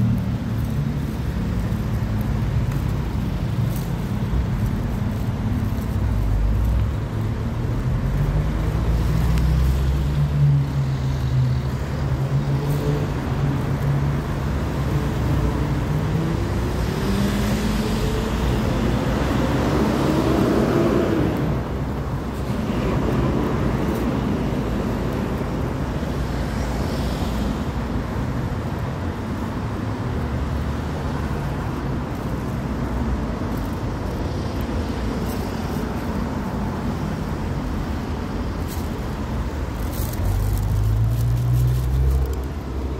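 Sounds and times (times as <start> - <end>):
road traffic: 0.0 - 42.9.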